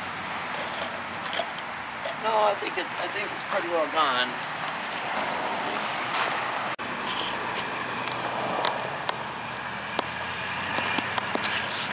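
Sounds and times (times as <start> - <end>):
road traffic hum: 0.0 - 11.9.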